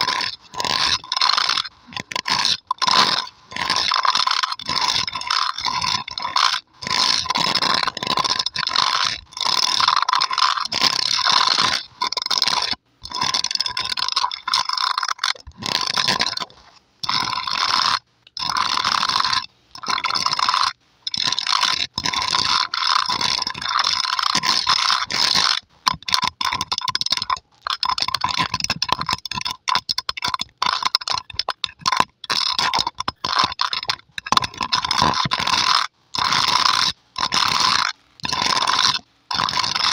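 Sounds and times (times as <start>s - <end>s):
fingernails scratching microphone grille: 0.0s - 39.9s.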